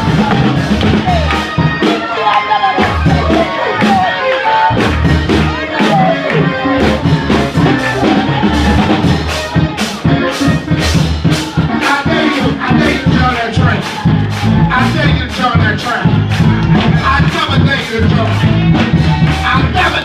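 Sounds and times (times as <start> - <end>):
church band music: 0.0 - 20.0
driving drum beat: 0.0 - 20.0
heavy bass: 0.0 - 20.0
keyboard: 0.0 - 20.0.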